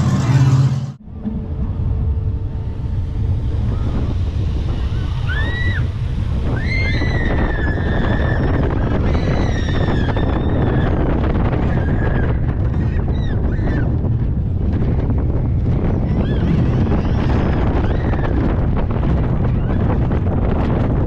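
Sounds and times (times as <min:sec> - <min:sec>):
roller coaster rumble: 0:00.0 - 0:21.0
wind rushing over microphone: 0:01.0 - 0:21.0.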